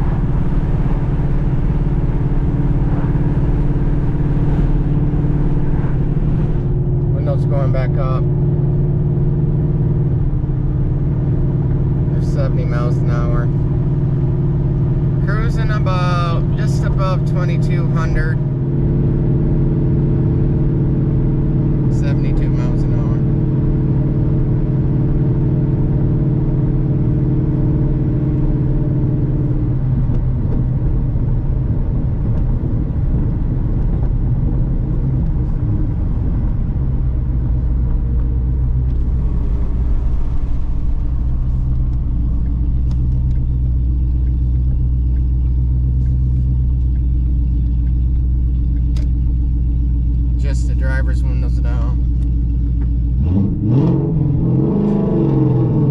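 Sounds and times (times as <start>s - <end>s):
car exhaust drone: 0.0s - 55.9s.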